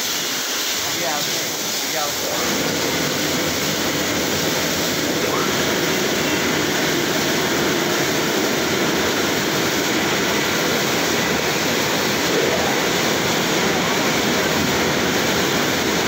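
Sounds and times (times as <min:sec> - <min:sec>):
car wash machinery: 0:00.0 - 0:16.0
water jets spraying a car: 0:00.0 - 0:16.0.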